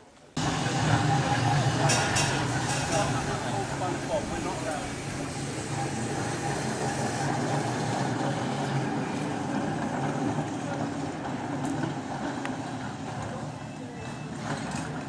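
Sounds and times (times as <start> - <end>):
tram running on track: 0.4 - 15.0.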